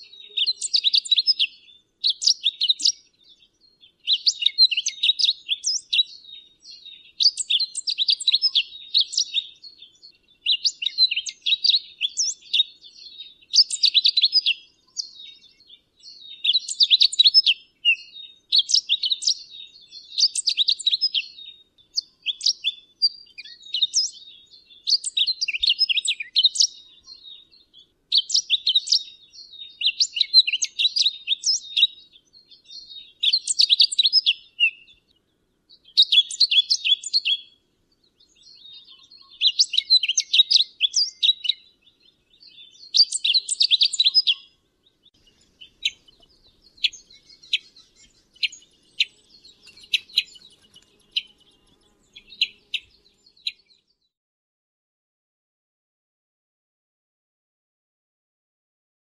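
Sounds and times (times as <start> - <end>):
finch chirping: 0.0 - 3.4, 4.0 - 35.0, 35.8 - 37.5, 38.2 - 44.5, 45.1 - 53.8.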